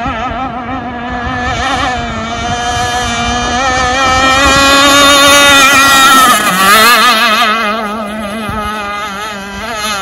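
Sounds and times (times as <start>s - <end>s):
model boat engine buzzing: 0.0s - 10.0s.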